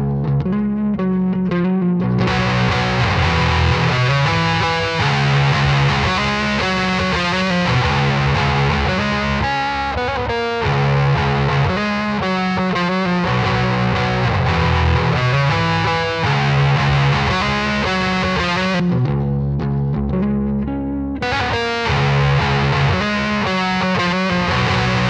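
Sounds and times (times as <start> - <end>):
distorted electric guitar riff: 0.0 - 25.0.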